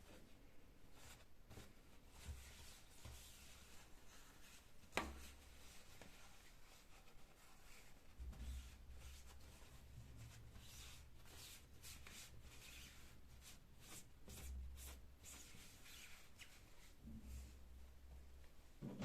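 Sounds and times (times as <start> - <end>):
rubbing and rustling: 0.9 - 17.6.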